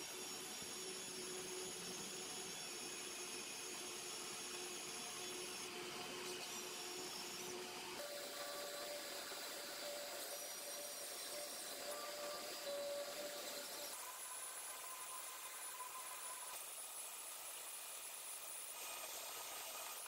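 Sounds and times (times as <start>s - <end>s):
cordless drill boring into wood: 0.0s - 20.0s.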